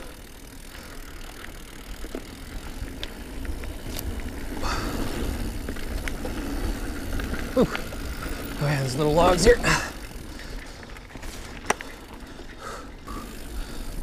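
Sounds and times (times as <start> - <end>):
bike clicks and rattles: 0.0 - 14.0
bike tyres on dirt: 0.0 - 14.0.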